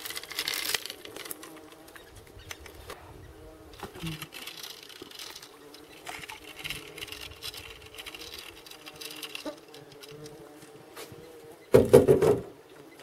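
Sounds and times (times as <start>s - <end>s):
flying insects buzzing: 0.0s - 13.0s.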